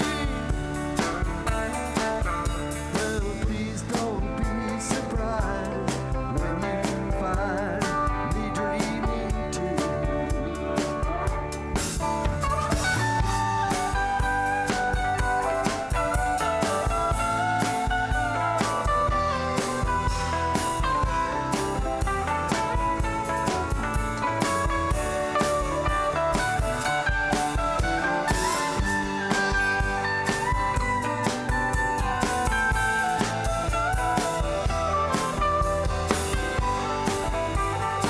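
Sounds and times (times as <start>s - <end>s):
drum kit beat: 0.0s - 38.0s
gliding guitar melody: 0.0s - 38.0s.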